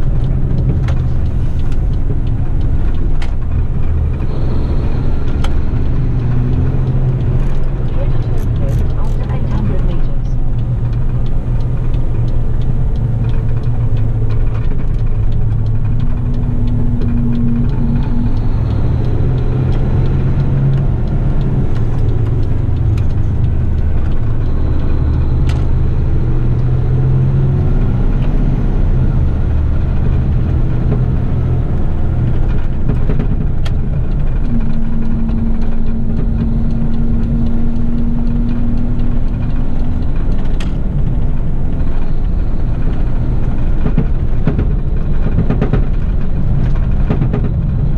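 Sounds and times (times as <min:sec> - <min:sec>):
higher steady hum: 0:00.0 - 0:43.6
garbage truck engine droning: 0:00.0 - 0:47.9
road noise: 0:00.0 - 0:47.9.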